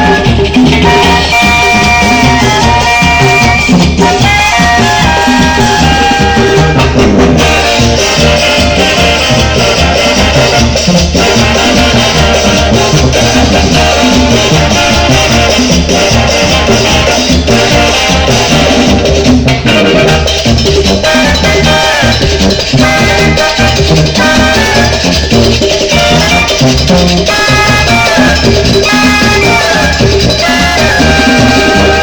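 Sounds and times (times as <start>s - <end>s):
salsa dance music: 0.0s - 32.0s.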